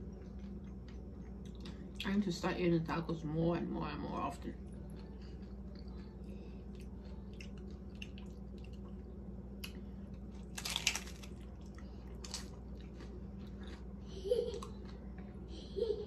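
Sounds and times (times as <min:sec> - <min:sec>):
chewing taco: 0:00.0 - 0:02.1, 0:04.3 - 0:15.5.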